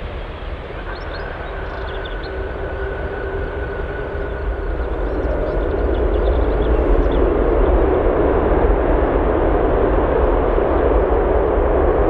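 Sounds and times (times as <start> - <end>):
jet engine whine: 0.0 - 12.0
jet engines rushing: 0.0 - 12.0.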